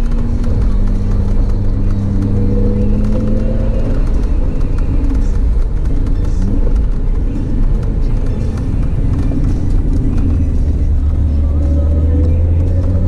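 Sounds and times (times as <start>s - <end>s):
car engine inside cabin: 0.0s - 13.0s
tyre noise on wet road: 0.0s - 13.0s.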